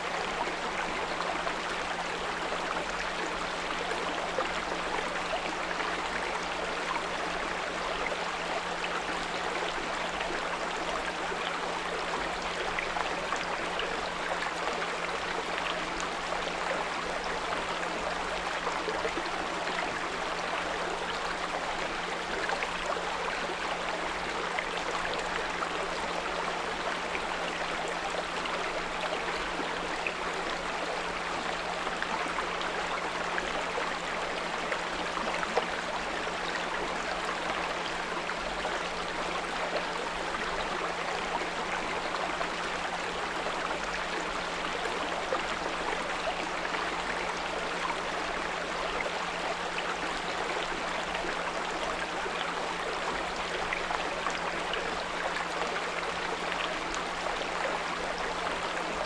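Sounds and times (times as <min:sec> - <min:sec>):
brook babbling: 0:00.0 - 0:59.0.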